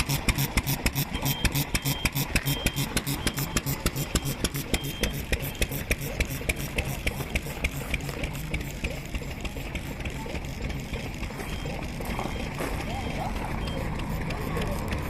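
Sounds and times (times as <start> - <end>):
low pulsing exhaust: 0.0 - 15.0
sharp engine clicks: 0.0 - 15.0
stationary engine running: 0.0 - 15.0.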